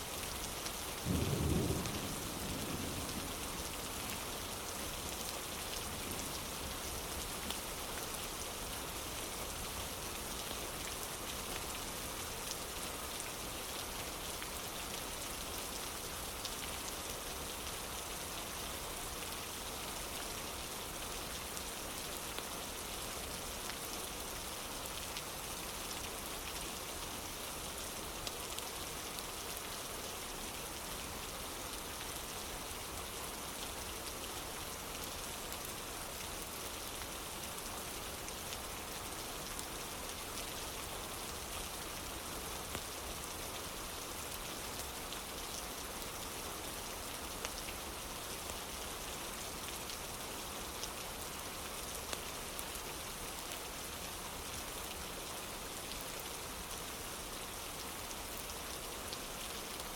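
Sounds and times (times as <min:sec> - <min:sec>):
rain falling on wooden porch: 0:00.0 - 0:59.9.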